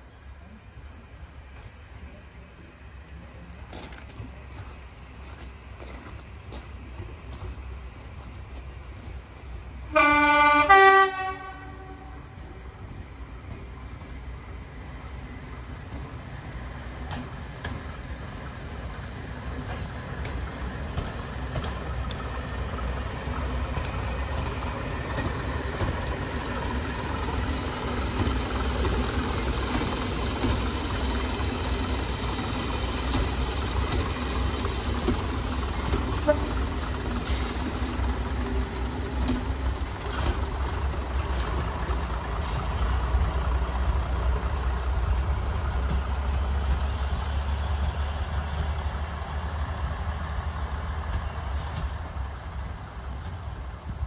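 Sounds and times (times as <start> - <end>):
diesel train passing: 0.0 - 54.0.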